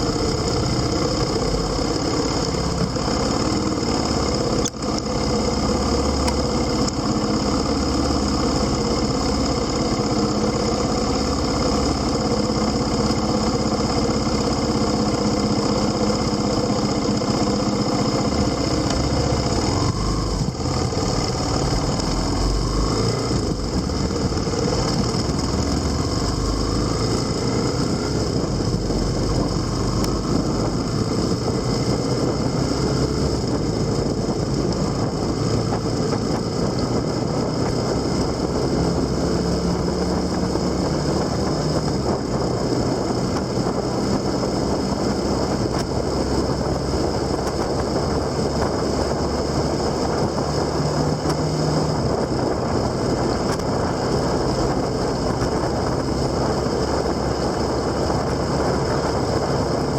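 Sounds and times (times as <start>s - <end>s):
vehicle engine: 0.0s - 59.9s
wind and road rush: 0.0s - 59.9s.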